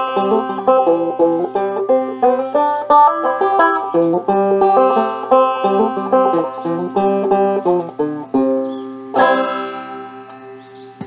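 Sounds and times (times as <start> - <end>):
banjo picking: 0.0 - 11.0.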